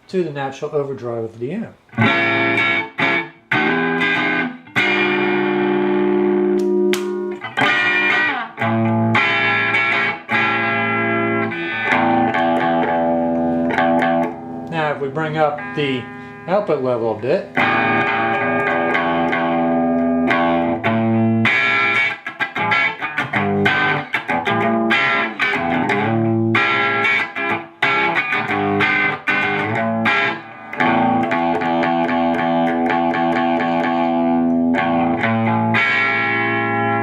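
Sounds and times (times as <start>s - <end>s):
overdriven electric guitar: 1.9s - 16.6s, 17.5s - 37.0s.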